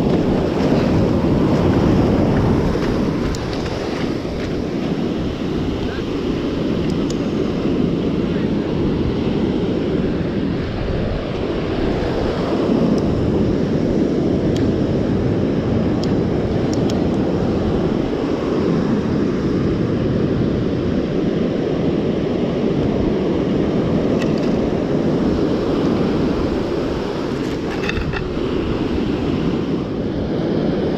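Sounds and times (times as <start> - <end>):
ocean surf: 0.0 - 30.9
wind rumble on microphone: 0.0 - 30.9.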